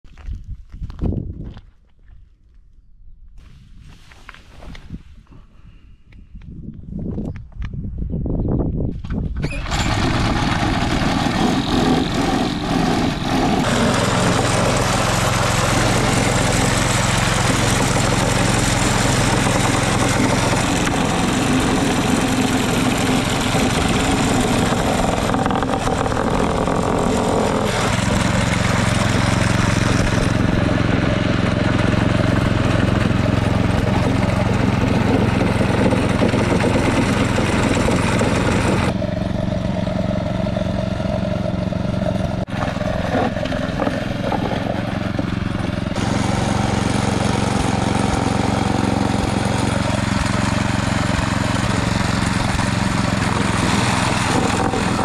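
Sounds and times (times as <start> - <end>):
lawnmower engine running: 9.4 - 55.0.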